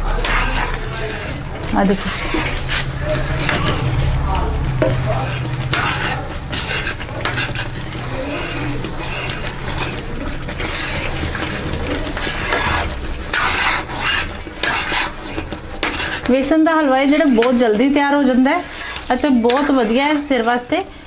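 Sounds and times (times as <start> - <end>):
spoon scraping pan bottom: 0.0 - 4.0, 4.8 - 20.7.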